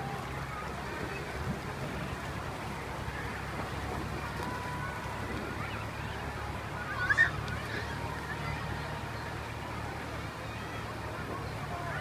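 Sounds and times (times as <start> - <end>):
faint children's voices: 0.0 - 12.0
pool water rushing: 0.0 - 12.0.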